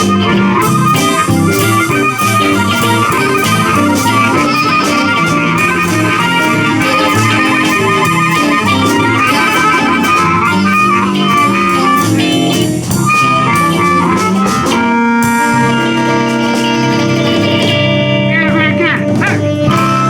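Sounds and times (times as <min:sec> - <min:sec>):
electric blues band playing: 0:00.0 - 0:20.0
electric guitar: 0:00.0 - 0:20.0
harmonica: 0:00.0 - 0:20.0.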